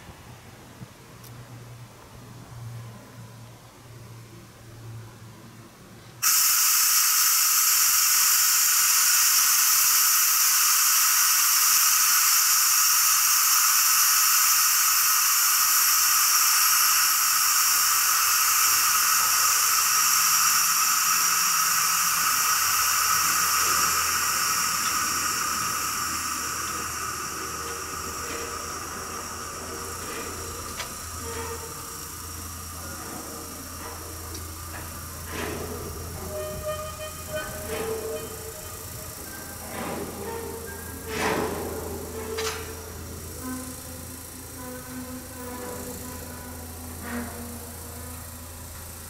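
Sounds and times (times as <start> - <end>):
compressed air hissing: 6.2 - 49.0.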